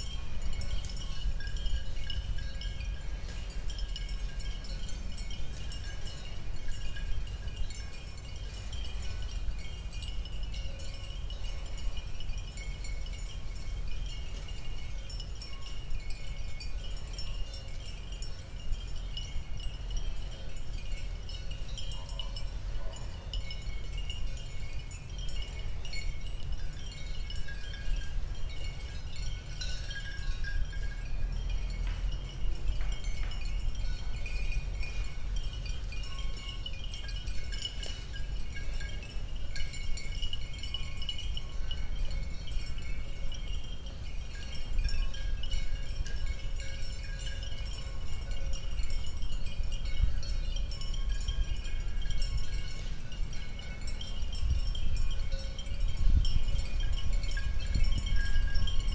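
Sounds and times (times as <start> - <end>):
cattle bells clinking: 0.0 - 58.9.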